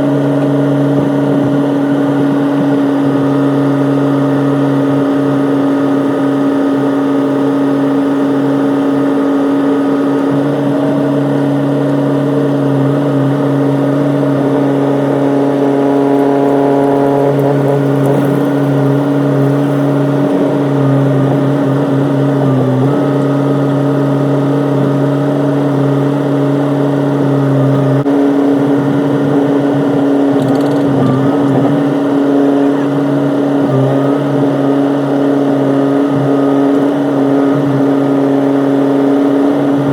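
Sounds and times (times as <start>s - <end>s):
excavator diesel engine running: 0.1s - 39.9s.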